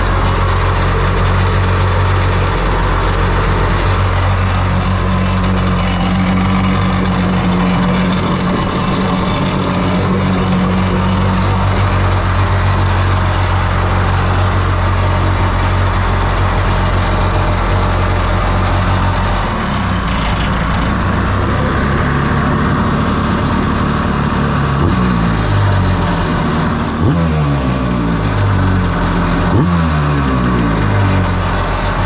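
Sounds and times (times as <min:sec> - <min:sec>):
boat engine running and revving: 0:00.0 - 0:32.0.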